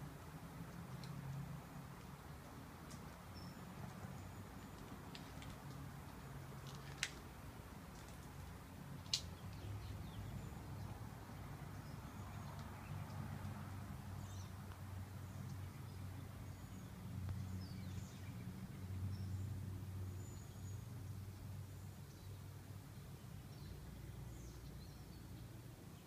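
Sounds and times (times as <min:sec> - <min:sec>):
small birds chirping: 0:00.6 - 0:07.2, 0:08.0 - 0:26.0.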